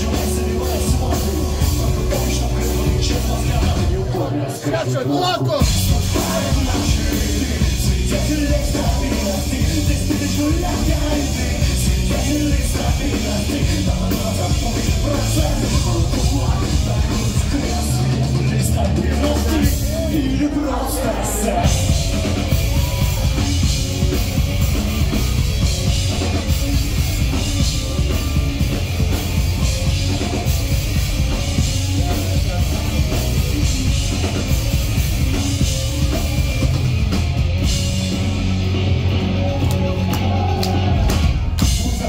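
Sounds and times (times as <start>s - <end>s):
drum kit: 0.0s - 4.5s, 5.4s - 42.0s
bass guitar: 0.0s - 42.0s
distorted electric guitars: 0.0s - 42.0s.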